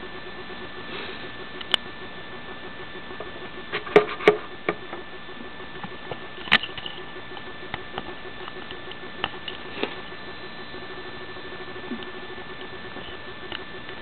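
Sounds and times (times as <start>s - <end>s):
faint constant tones: 0.0s - 14.0s.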